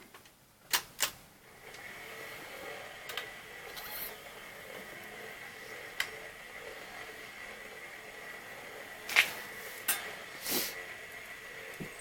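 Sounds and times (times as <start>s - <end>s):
record player mechanical whir: 0.8s - 12.0s.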